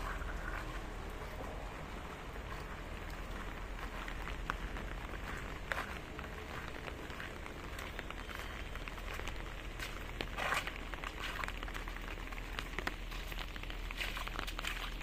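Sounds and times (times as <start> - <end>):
raindrops ticking: 0.0 - 15.0.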